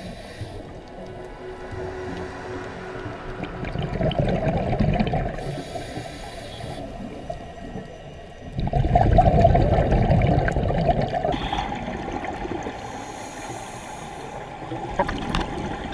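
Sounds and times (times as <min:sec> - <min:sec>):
underwater bubbling and rumbling: 0:00.0 - 0:15.9.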